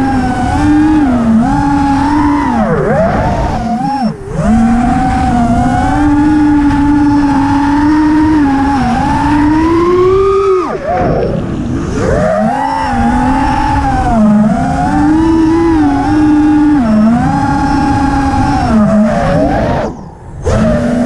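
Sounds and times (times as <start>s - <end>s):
drone motors whining: 0.0s - 21.0s
wind buffeting microphone: 0.0s - 21.0s.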